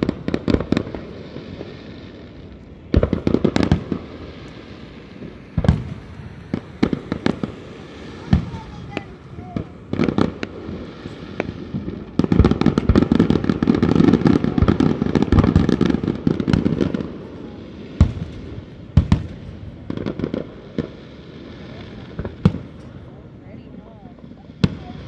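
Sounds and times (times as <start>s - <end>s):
fireworks bangs and crackling: 0.0s - 25.0s
fireworks booms: 0.0s - 25.0s.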